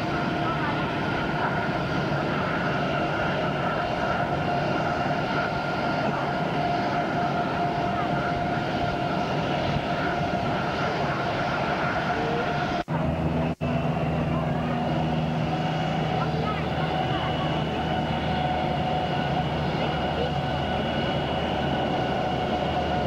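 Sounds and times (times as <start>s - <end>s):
jet engines roaring and whining: 0.0s - 23.0s.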